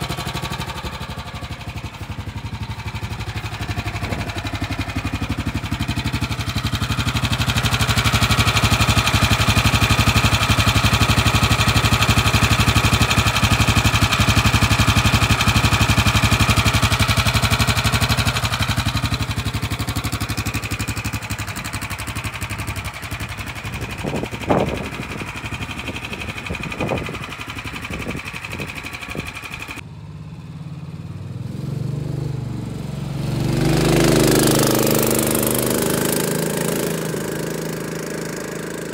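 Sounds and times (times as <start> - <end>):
gas engine idling: 0.0 - 29.9, 33.8 - 38.9.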